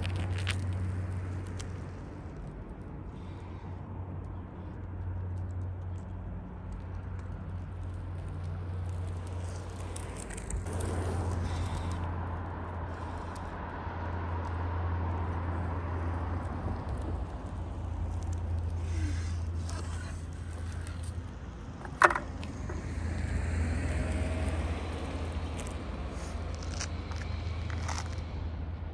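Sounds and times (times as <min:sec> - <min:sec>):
scooter rolling over asphalt: 0:00.0 - 0:02.5, 0:05.3 - 0:28.3
low outdoor rumble: 0:00.0 - 0:28.9.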